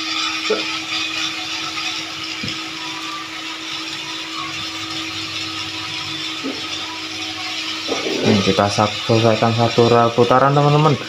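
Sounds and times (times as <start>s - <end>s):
toy train motor whining: 0.0s - 11.0s
wheels and gears hissing: 0.0s - 11.0s.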